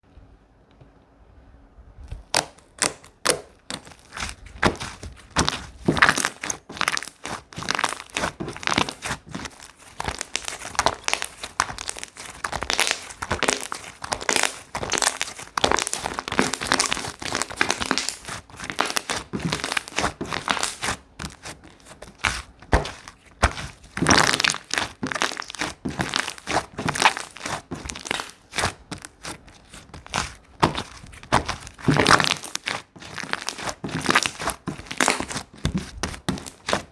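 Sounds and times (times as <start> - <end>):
slime squished by hand: 2.2 - 36.9.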